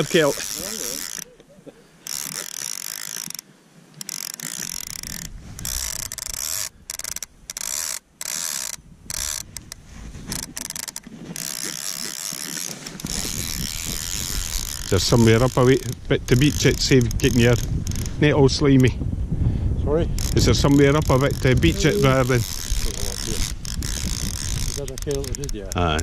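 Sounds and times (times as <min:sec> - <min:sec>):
fly reel ratchet clicking: 0:00.0 - 0:01.4, 0:02.0 - 0:18.2, 0:20.2 - 0:26.0.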